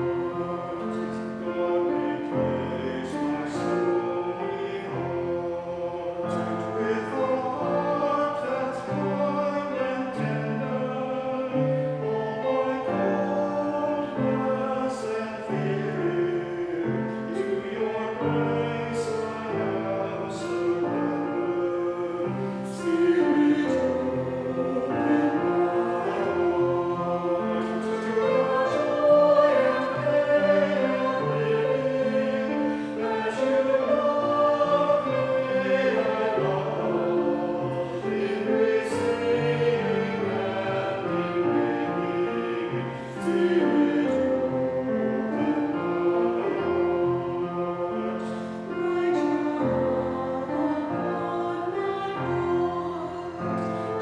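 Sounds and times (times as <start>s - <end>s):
choir singing a hymn: 0.0s - 54.0s
piano accompaniment: 0.0s - 54.0s.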